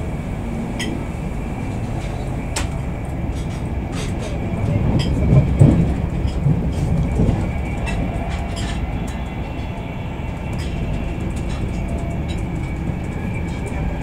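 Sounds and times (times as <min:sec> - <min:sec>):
train wheels rumbling on rail: 0:00.0 - 0:14.0
track clicks and knocks: 0:00.7 - 0:14.0.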